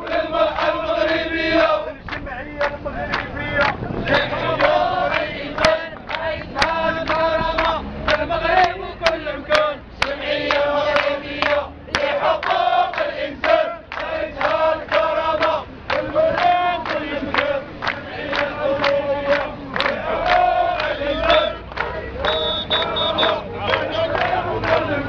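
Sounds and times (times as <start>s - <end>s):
crowd chanting slogans: 0.0s - 25.0s
hand-clapping: 2.1s - 25.0s.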